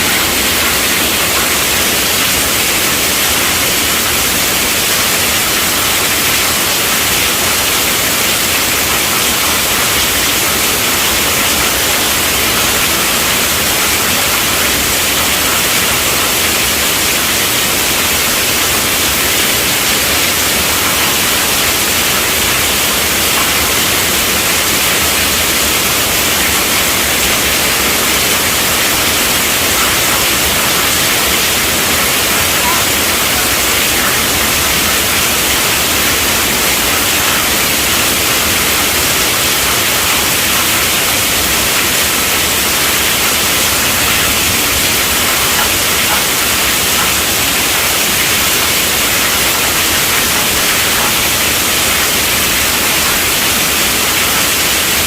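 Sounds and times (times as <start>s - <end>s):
heavy rain on a tent roof: 0.0s - 55.0s.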